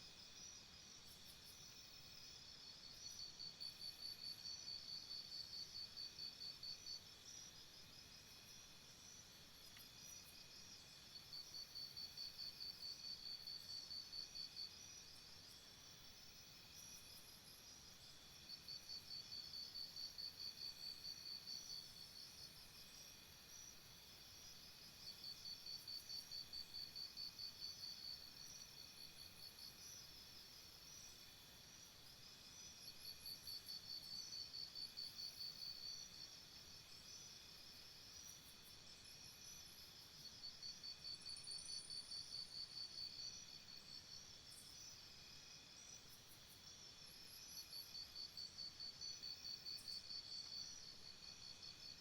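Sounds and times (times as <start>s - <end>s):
insect chirping: 0.1s - 52.0s.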